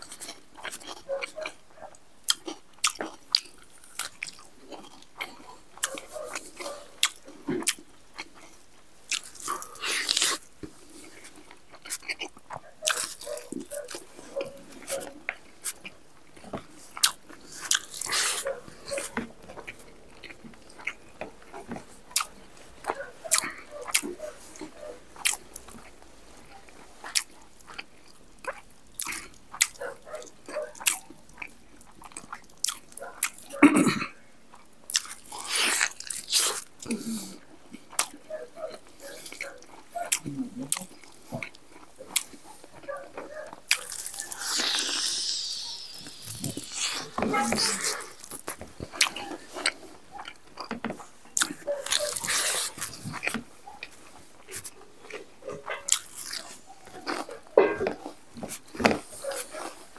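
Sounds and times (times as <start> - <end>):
man chewing food: 0.0 - 59.9.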